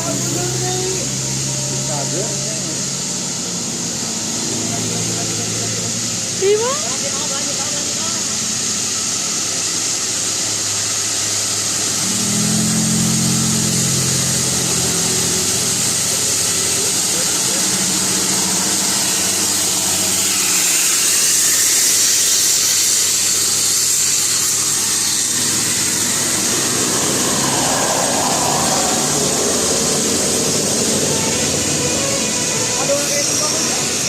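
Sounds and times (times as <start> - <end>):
heavy vehicle engines running: 0.0 - 21.7, 23.2 - 34.0.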